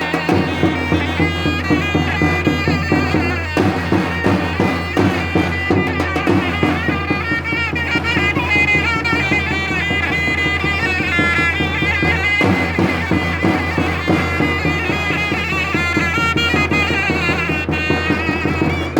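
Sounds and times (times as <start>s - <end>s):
shrill reed pipe melody: 0.0s - 18.9s.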